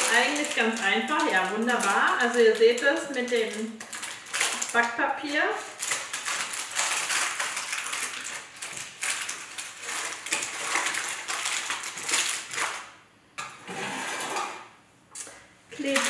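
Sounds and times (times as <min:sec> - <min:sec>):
baking paper crinkling: 0:00.0 - 0:13.0, 0:15.8 - 0:16.0.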